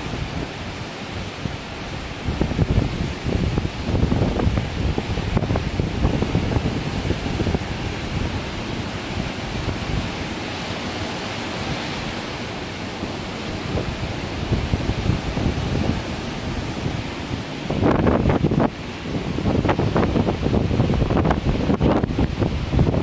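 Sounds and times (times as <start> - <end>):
surf breaking on shore: 0.0 - 23.0
wind buffeting microphone: 0.0 - 23.0.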